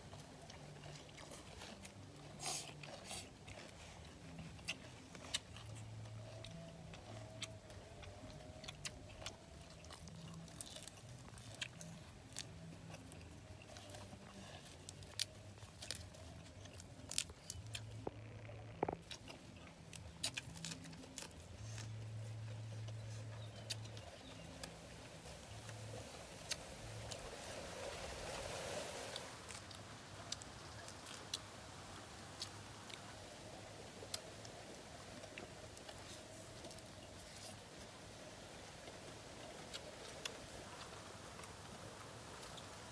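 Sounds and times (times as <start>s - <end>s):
chewing and lip-smacking: 0.0s - 27.4s, 29.5s - 42.9s.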